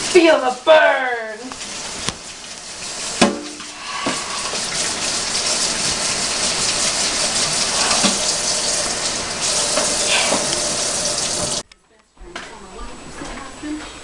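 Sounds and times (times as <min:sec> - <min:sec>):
water running from a tap: 0:00.0 - 0:11.6.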